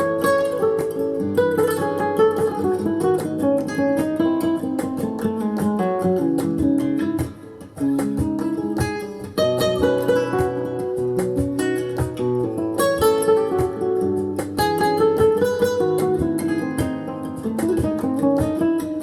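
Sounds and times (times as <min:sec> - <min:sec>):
acoustic guitar music through loudspeaker: 0:00.0 - 0:19.0.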